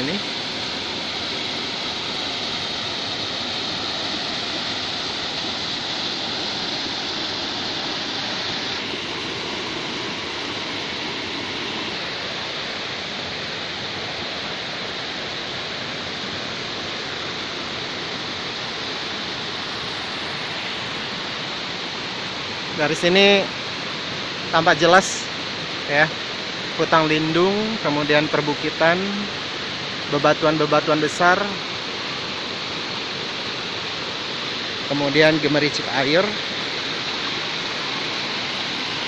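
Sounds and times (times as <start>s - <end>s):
stream rushing over rocks: 0.0s - 39.0s.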